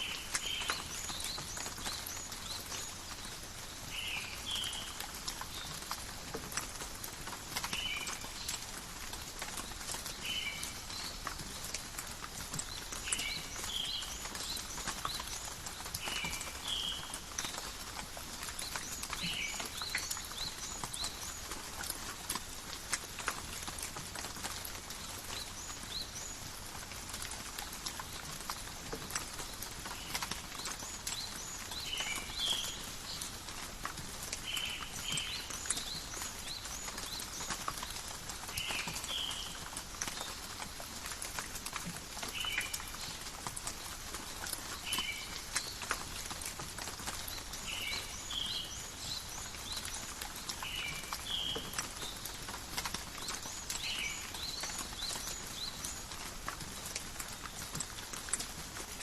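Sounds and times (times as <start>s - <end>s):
rain dripping in forest: 0.0s - 59.0s.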